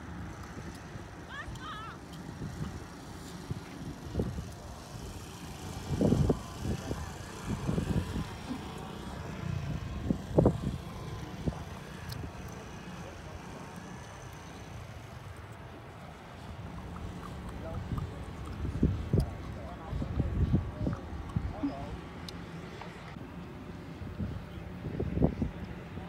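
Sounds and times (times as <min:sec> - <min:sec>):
wind buffeting microphone: 0:02.2 - 0:14.1, 0:16.2 - 0:23.2, 0:23.8 - 0:26.0.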